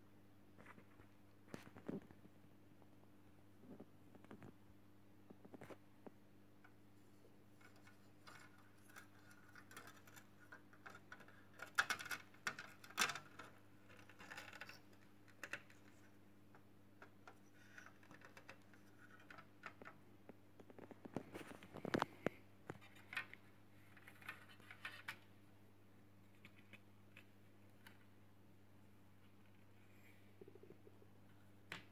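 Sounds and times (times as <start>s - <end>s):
faint low hum: 0.0s - 31.9s.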